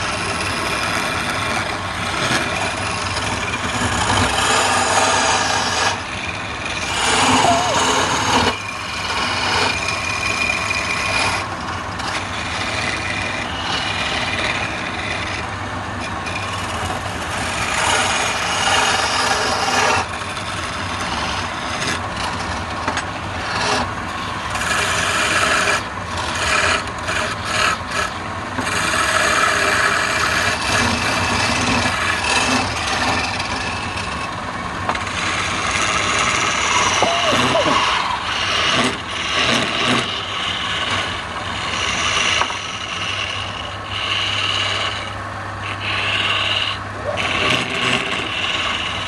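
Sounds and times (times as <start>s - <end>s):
chisel rasping on spinning wood: 0.0s - 49.0s
lathe humming: 0.0s - 49.0s.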